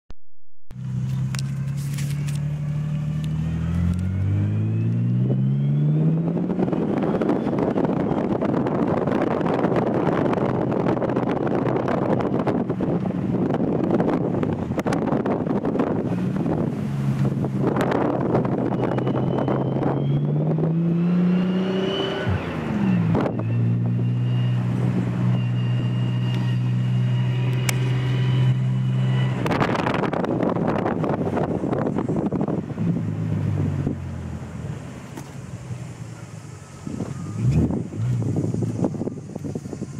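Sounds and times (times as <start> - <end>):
transmission whine: 0.7 - 33.5
car engine accelerating: 0.7 - 39.9
road and wind noise: 0.7 - 39.9.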